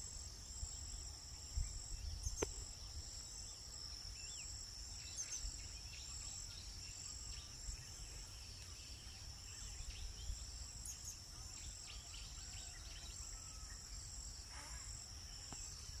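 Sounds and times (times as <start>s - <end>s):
crickets trilling: 0.0s - 16.0s
faint bird chirps: 0.4s - 16.0s.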